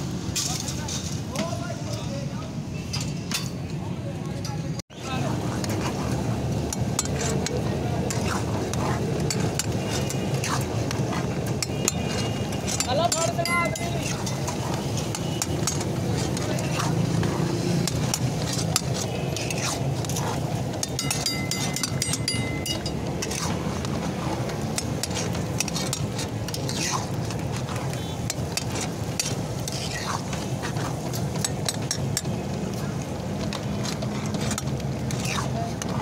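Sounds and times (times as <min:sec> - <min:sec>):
metal spatula scraping steel pan: 0:05.5 - 0:32.3, 0:33.6 - 0:36.0.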